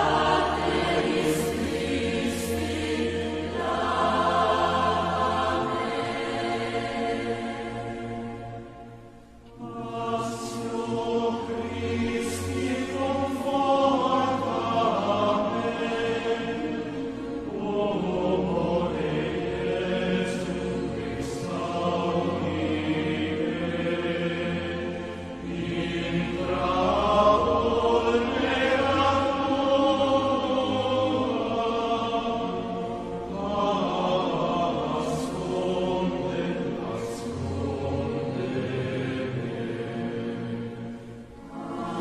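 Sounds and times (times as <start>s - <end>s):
sustained low accompaniment: 0.0s - 42.0s
voices singing a hymn: 0.0s - 42.0s.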